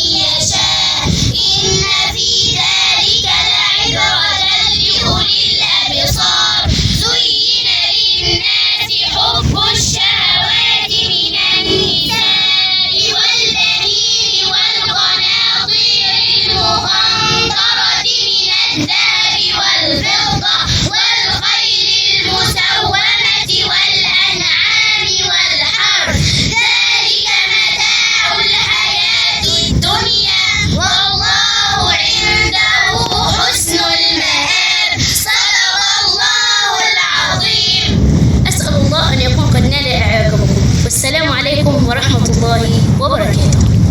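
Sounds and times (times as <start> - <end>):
girls chanting recitation: 0.0 - 43.9.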